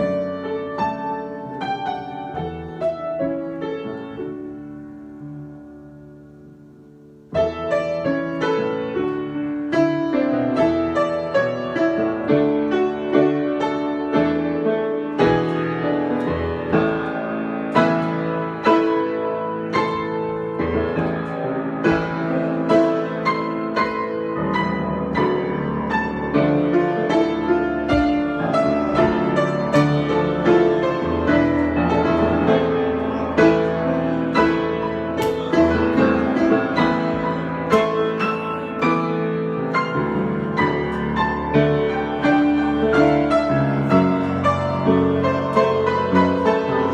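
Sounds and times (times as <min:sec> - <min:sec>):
solo piano improvisation: 0:00.0 - 0:46.9.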